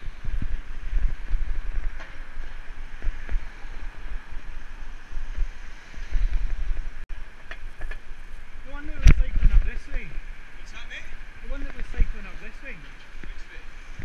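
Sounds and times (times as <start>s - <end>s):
road noise: 0.0s - 14.0s
wind buffeting microphone: 0.0s - 14.0s.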